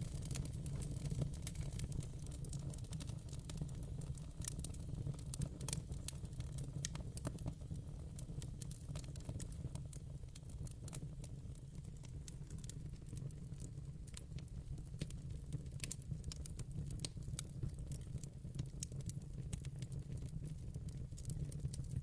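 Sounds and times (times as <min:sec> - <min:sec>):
low rumble of fire: 0:00.0 - 0:22.0
wood fire crackling and popping: 0:00.0 - 0:22.0.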